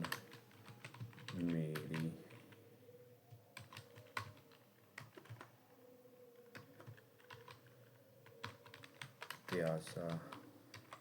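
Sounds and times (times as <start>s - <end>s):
computer keyboard typing: 0.0s - 2.6s, 3.5s - 5.6s, 6.4s - 11.0s.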